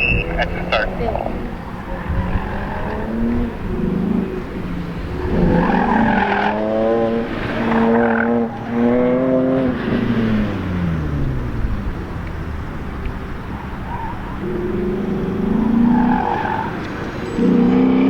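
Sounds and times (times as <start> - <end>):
car engine accelerating through gears: 0.0 - 18.0.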